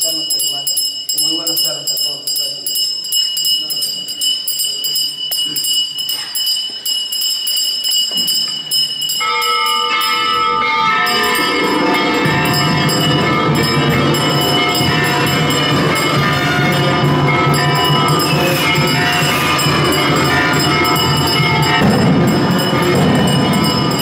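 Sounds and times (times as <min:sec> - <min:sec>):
bell ringing and jingling: 0:00.0 - 0:24.0.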